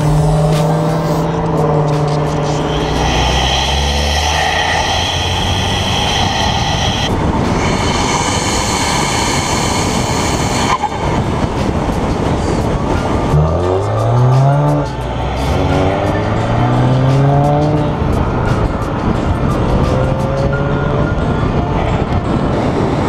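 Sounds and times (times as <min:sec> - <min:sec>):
car engine revving: 0:00.0 - 0:23.0
road noise: 0:00.0 - 0:23.0.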